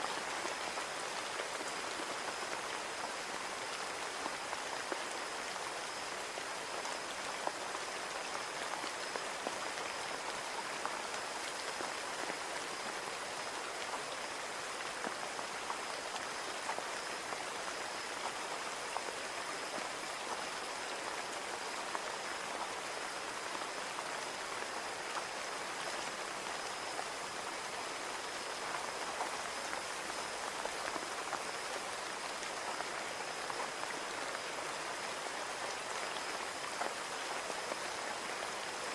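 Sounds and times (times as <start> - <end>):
rain hissing on window: 0.0 - 38.9.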